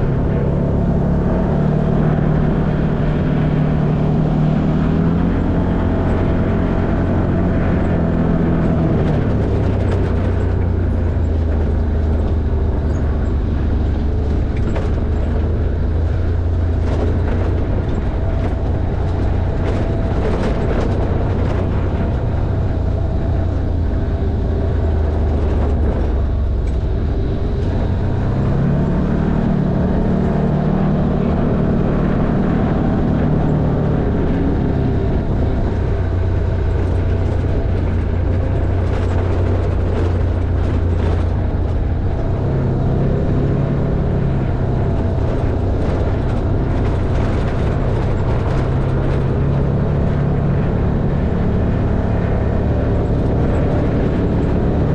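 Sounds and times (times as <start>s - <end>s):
clicks and knocks on rough track: 0.0s - 54.9s
off-road vehicle engine running: 0.0s - 54.9s.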